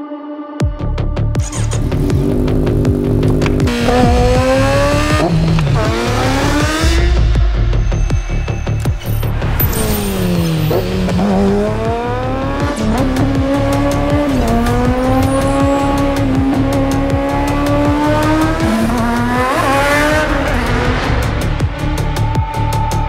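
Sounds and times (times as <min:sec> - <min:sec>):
motorcycle engine accelerating: 0:01.4 - 0:22.9
music beat: 0:02.1 - 0:23.0.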